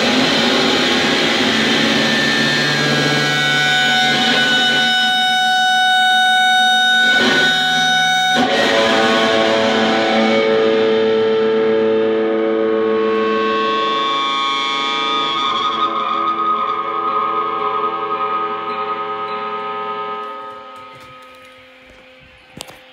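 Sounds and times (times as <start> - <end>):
bowed electric guitar drone: 0.0 - 22.9.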